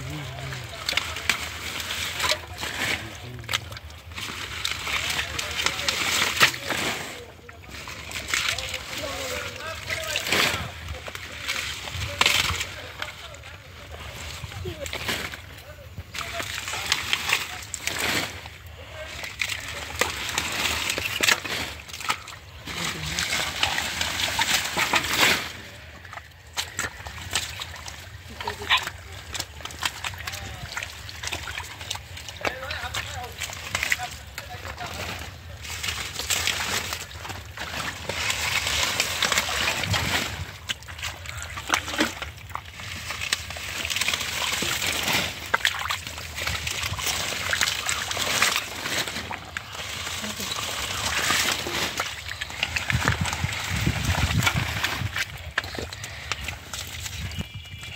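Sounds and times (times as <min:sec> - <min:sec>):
mud and water splashing: 0:00.0 - 0:57.9
plants rustling: 0:00.0 - 0:57.9.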